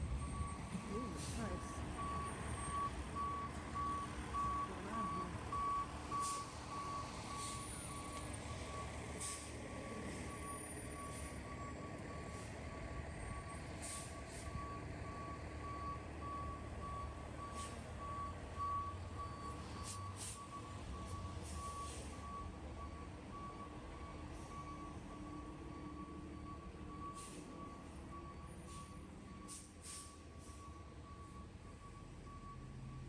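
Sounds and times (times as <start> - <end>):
low engine rumble: 0.0 - 33.0
reversing alarm beeping: 0.2 - 33.0.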